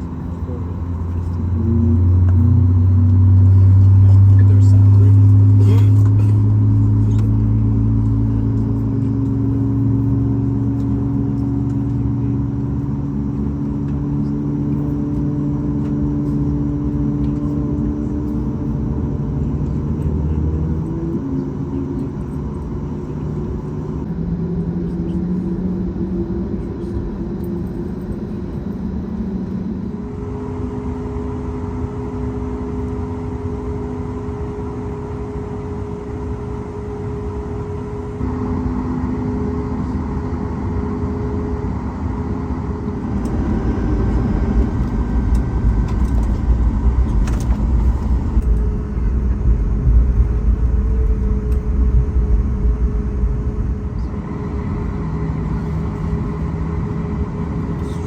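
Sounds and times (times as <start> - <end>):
heavy low rumble: 0.0 - 32.2, 38.0 - 58.0
aircraft cabin hum with whine: 0.0 - 58.0.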